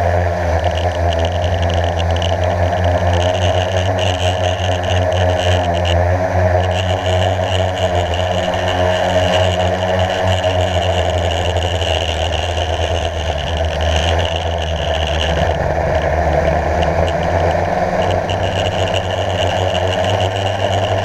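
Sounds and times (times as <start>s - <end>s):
quadcopter motors whirring: 0.0s - 21.0s.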